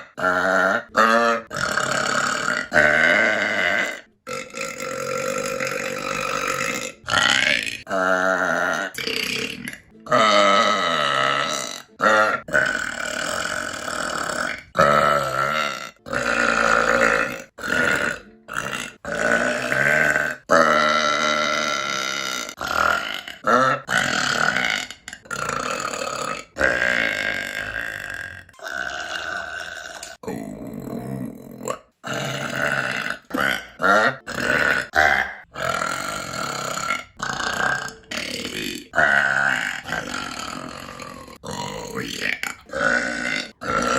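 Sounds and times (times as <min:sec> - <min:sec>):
woman burping: 0:00.0 - 0:43.9.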